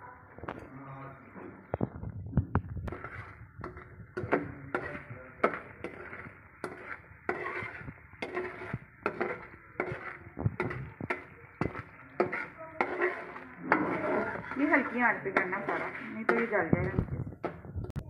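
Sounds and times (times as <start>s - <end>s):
metal spatula scraping a metal pan: 2.9s - 18.0s.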